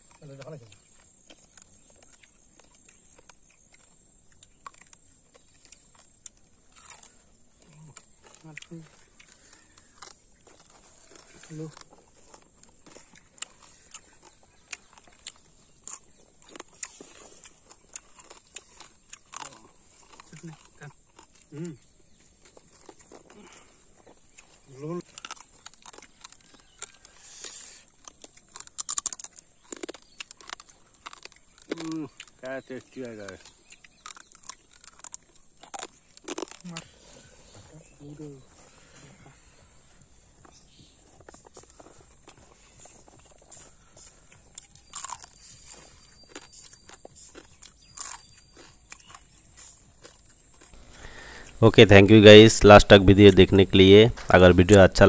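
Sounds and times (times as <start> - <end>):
person eating and chewing: 0.0 - 55.0.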